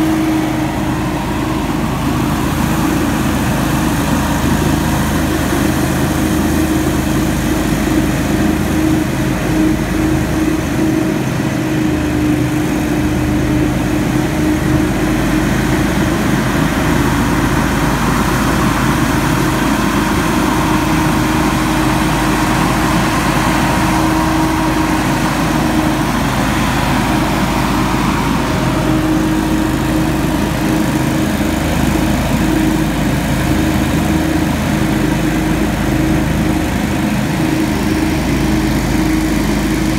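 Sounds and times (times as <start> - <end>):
leaf blower running: 0.0 - 39.9.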